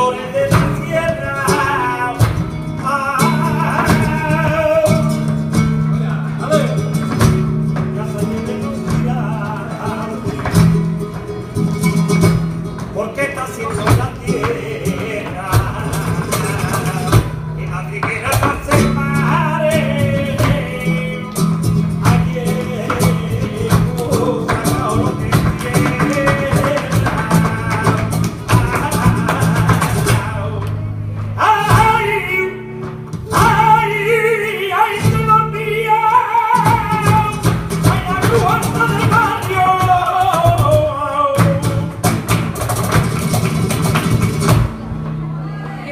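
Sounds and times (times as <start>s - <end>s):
flamenco guitar playing: 0.0s - 45.9s.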